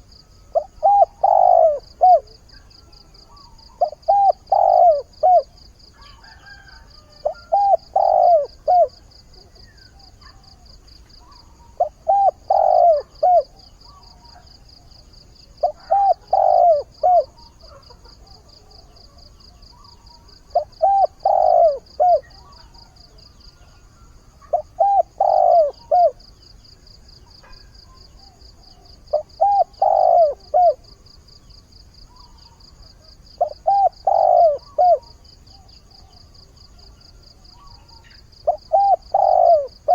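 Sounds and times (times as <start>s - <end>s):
dove cooing: 0.0s - 14.8s, 15.5s - 26.3s, 27.2s - 31.0s, 32.1s - 39.9s
high insect trill: 0.0s - 17.8s, 19.0s - 39.9s.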